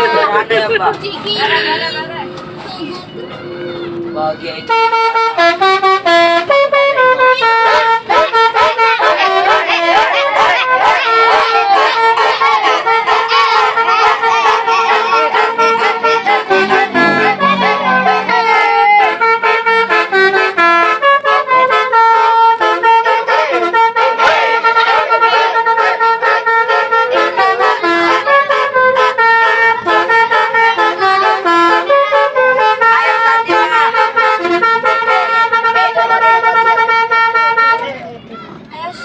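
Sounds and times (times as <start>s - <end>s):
musical bus horn playing a tune: 0.0s - 38.2s.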